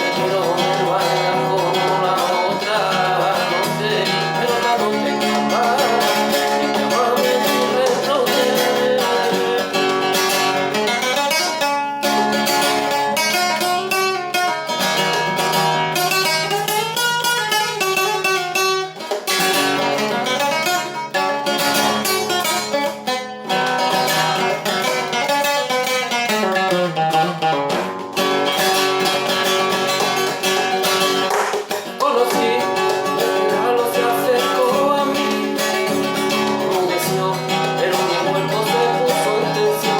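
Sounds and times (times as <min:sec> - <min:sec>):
guitar instrumental: 0:00.0 - 0:39.9.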